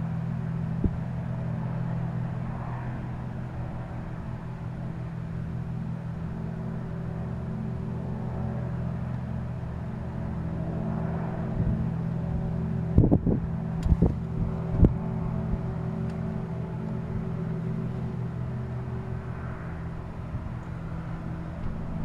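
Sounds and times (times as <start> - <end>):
low industrial hum: 0.0 - 22.0.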